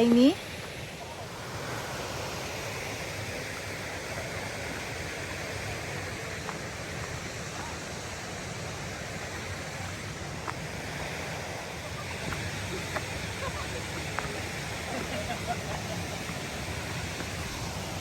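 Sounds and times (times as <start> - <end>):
flowing water: 0.0 - 18.0.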